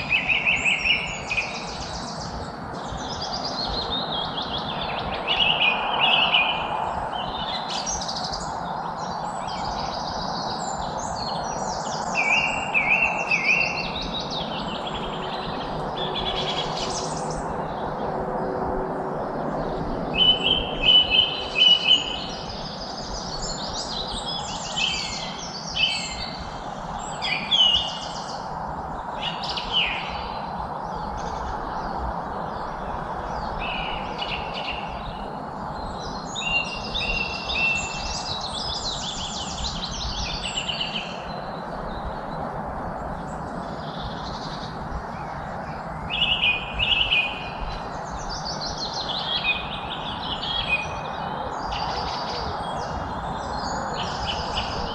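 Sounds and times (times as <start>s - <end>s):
songbirds singing and chirping: 0.0s - 54.9s
steady background rush: 1.2s - 54.9s.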